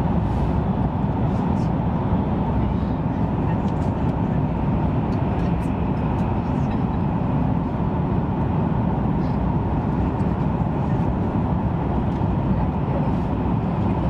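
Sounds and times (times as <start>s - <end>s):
train rumble inside cabin: 0.0s - 14.0s.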